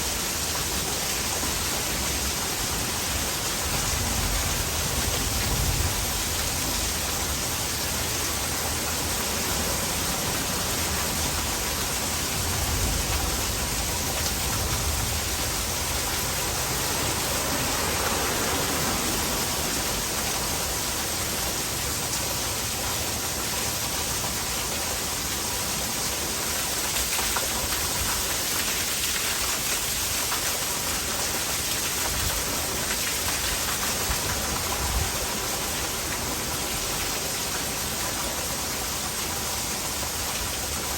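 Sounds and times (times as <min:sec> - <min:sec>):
heavy rain falling: 0:00.0 - 0:40.9
water pouring into a gutter: 0:00.0 - 0:40.9.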